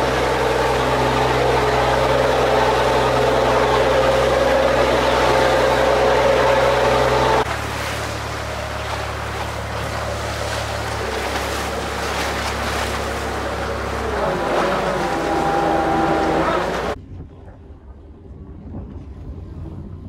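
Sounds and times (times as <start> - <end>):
boat engine running: 0.0 - 20.0
choppy sea: 0.0 - 20.0
water rushing along hull: 0.0 - 20.0
wind: 0.0 - 20.0.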